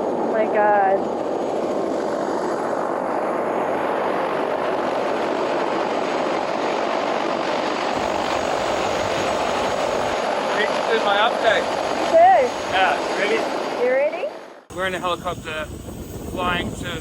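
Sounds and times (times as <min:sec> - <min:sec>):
helicopter rotor and engine drone: 0:00.0 - 0:17.0.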